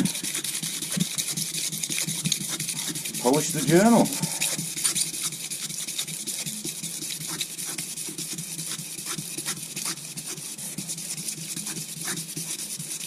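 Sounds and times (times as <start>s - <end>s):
cord rasping on abrasive paper: 0.0s - 13.0s.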